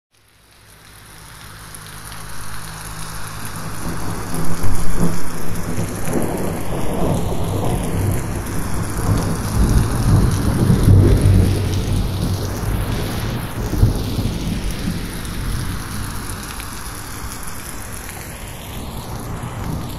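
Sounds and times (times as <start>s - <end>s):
rain falling on leaves: 0.1s - 19.9s.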